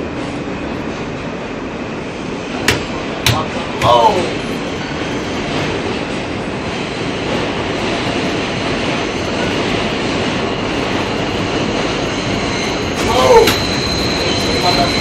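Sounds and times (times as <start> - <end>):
subway car running noise: 0.0 - 15.0.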